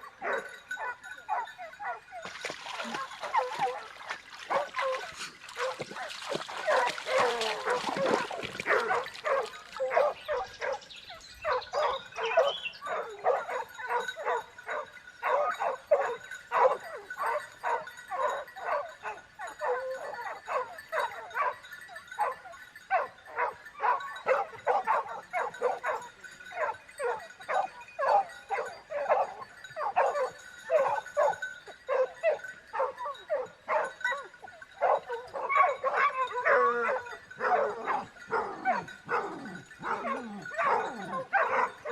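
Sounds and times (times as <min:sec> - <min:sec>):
dog barking: 0:00.0 - 0:41.9.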